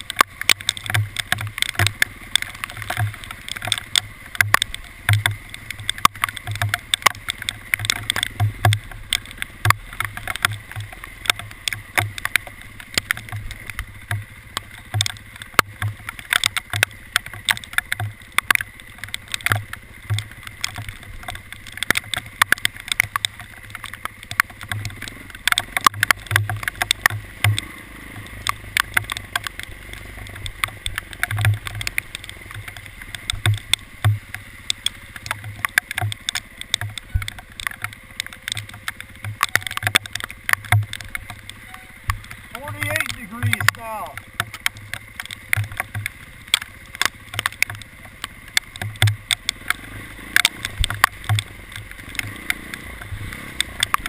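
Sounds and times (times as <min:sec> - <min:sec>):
hailstones striking: 0:00.0 - 0:54.0
low rumble of travel: 0:00.0 - 0:54.0.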